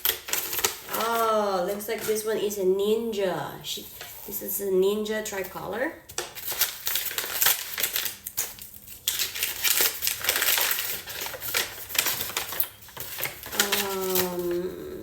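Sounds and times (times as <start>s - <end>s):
wrapping crinkling and rustling: 0.0s - 2.6s, 3.7s - 4.6s, 5.2s - 14.9s.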